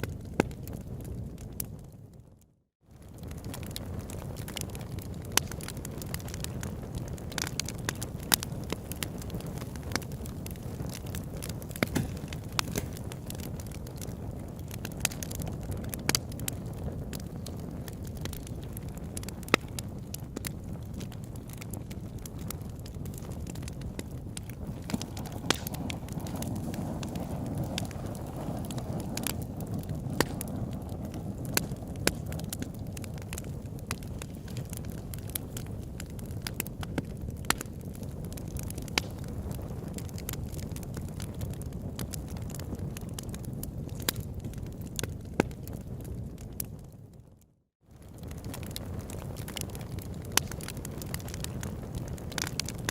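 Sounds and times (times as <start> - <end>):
campfire crackling and popping: 0.0 - 52.9
low fire rumble: 0.0 - 52.9
low rush of flame: 2.9 - 47.3, 47.9 - 52.9.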